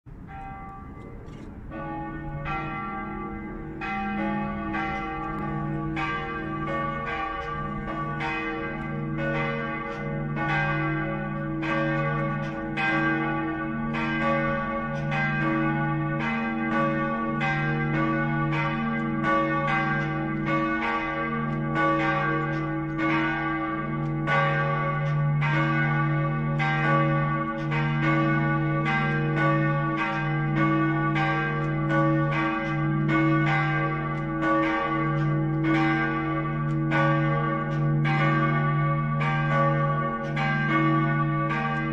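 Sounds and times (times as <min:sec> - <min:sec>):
church bells ringing: 0:00.1 - 0:41.9.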